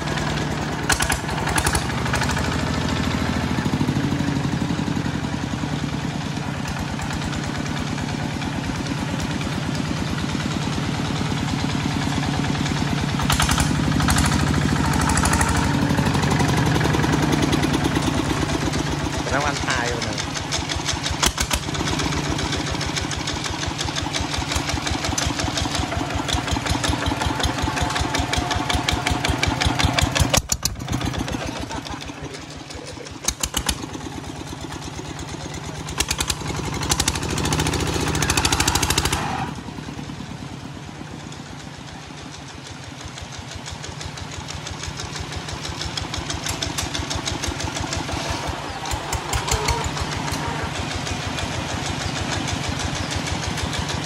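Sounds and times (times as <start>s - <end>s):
diesel tractor engine chugging: 0.0s - 54.0s.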